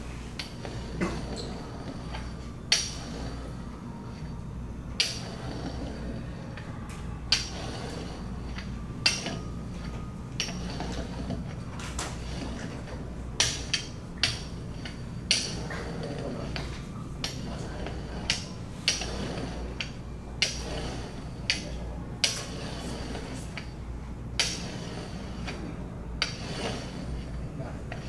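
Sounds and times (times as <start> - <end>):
rolling pin rolling dough: 0.0 - 28.0.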